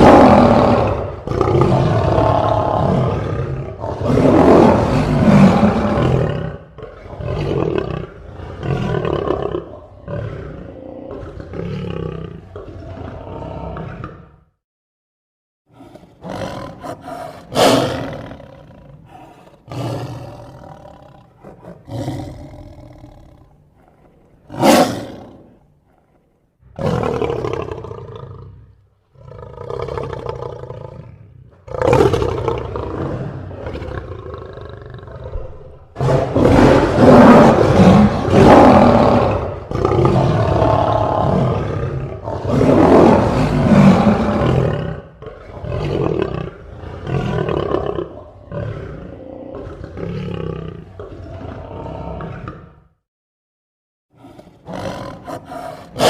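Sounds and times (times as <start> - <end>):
lion roaring and growling: 0.0 - 14.5, 15.7 - 53.0, 54.2 - 56.0.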